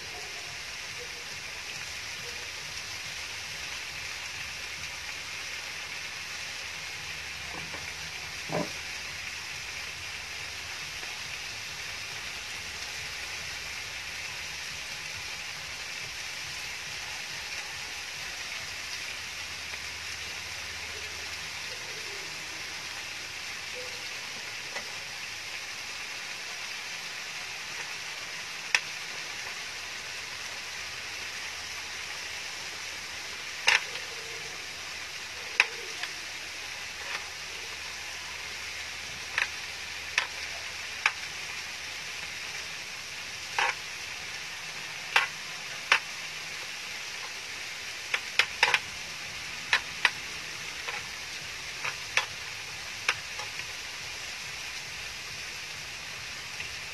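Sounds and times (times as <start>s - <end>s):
food sizzling on grill pan: 0.0s - 56.9s.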